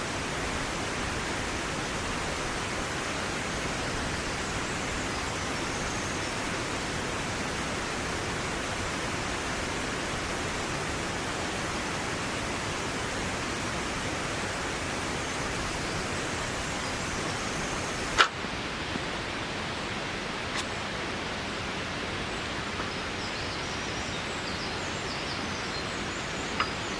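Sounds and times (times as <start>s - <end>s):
water rushing: 0.0s - 26.9s.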